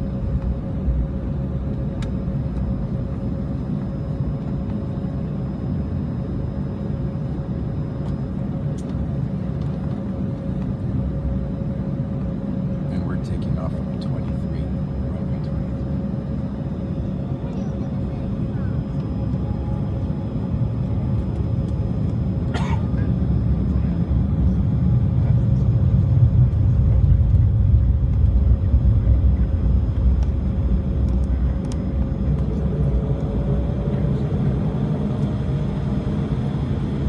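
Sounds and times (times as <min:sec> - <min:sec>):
jet engines whining: 0:00.0 - 0:37.0.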